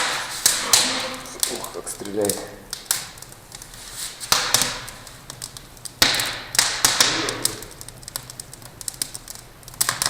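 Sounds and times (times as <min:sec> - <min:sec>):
loud snaps with hiss: 0:00.0 - 0:10.0
wood fire crackling: 0:00.0 - 0:10.0.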